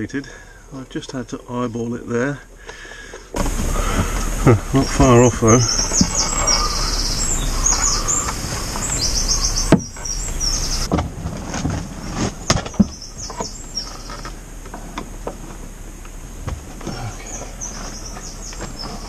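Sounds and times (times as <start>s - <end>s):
small birds chirping: 0.0s - 10.9s, 12.3s - 19.0s.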